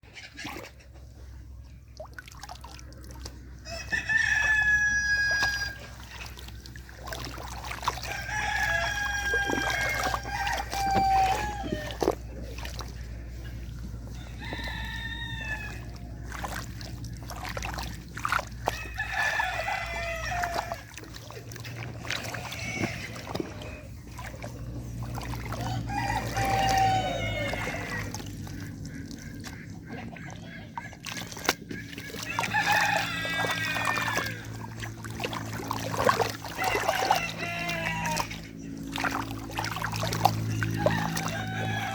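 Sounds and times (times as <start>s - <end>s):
steady low rumble: 0.1s - 41.9s
roosters crowing: 3.5s - 29.4s, 31.8s - 41.9s.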